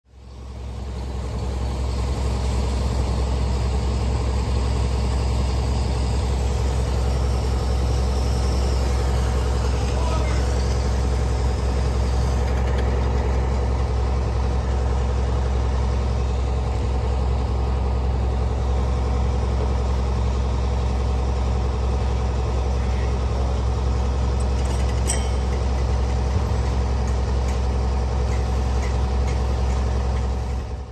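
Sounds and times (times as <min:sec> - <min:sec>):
diesel truck engines idling: 0:00.1 - 0:30.9.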